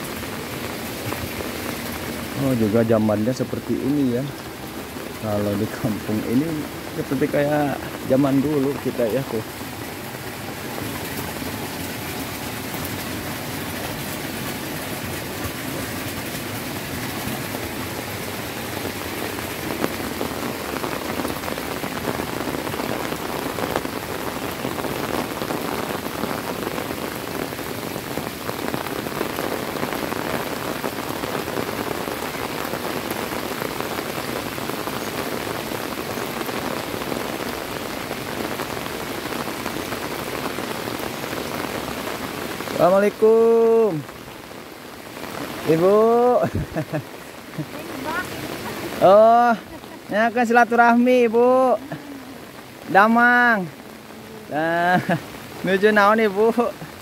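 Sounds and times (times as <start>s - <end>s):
heavy rain splashing on puddles: 0.0s - 57.0s.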